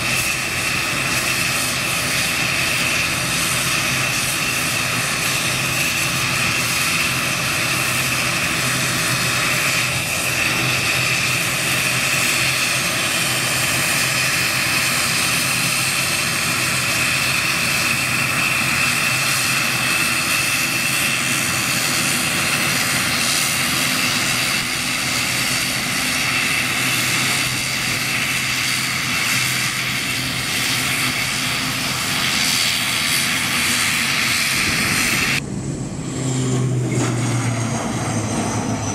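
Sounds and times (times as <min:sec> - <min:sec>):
turboprop airliner engines whining: 0:00.0 - 0:38.9.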